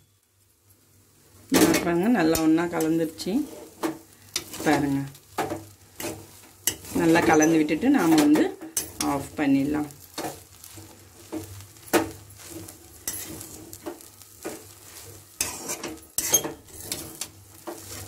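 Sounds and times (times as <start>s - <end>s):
metal spatula scraping a pan: 1.6s - 18.0s.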